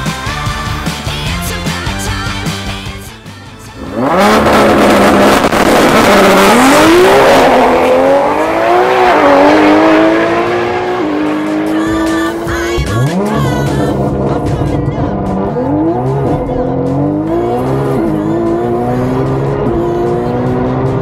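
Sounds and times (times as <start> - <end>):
race car engine revving: 3.8 - 21.0.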